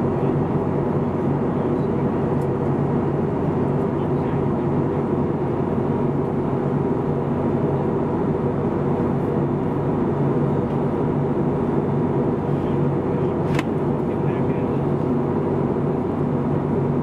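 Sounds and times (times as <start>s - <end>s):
airplane cabin drone: 0.0s - 17.0s
low steady hum tones: 0.0s - 17.0s.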